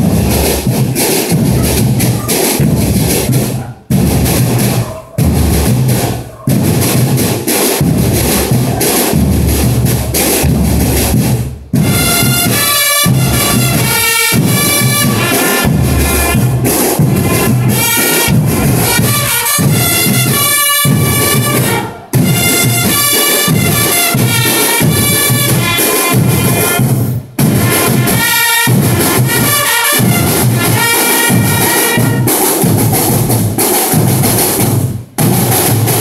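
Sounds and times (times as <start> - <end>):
brass melody: 0.0 - 32.9
bass drums and snare drums: 0.0 - 36.0.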